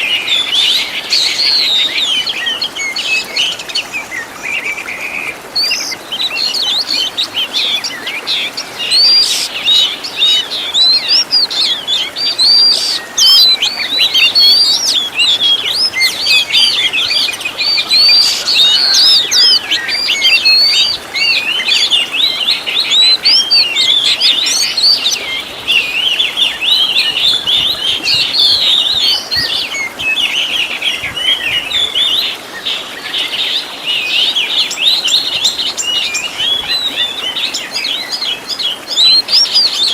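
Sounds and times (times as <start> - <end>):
songbird singing whistles and chirps: 0.0 - 39.9.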